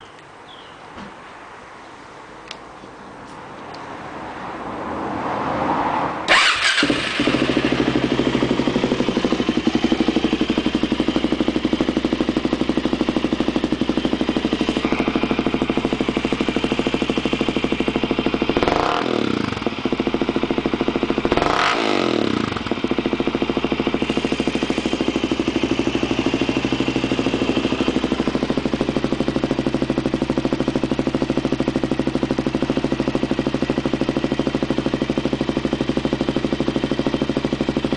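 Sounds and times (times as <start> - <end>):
engine revving: 4.8 - 37.9
quad engine starting and idling: 6.3 - 37.9.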